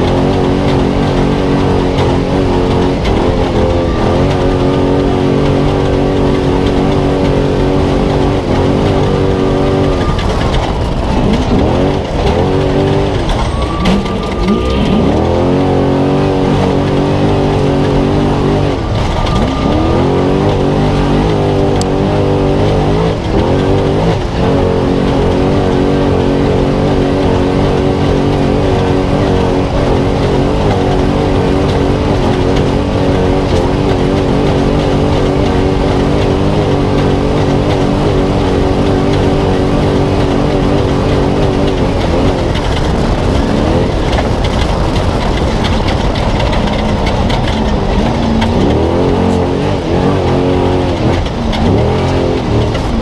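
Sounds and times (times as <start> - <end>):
truck engine revving hard: 0.0 - 53.0.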